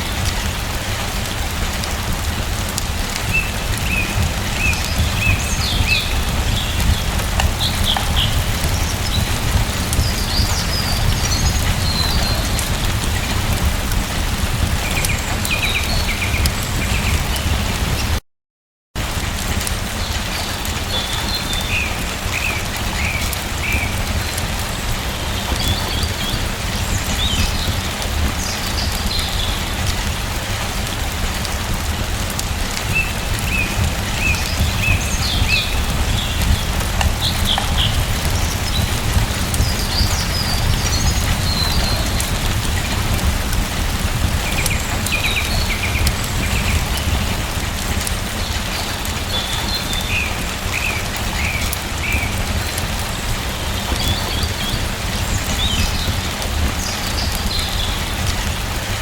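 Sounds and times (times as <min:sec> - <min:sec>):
steady rain falling: 0:00.0 - 0:18.2, 0:19.0 - 0:59.0
small birds chirping: 0:03.2 - 0:18.2, 0:20.0 - 0:30.2, 0:32.8 - 0:59.0.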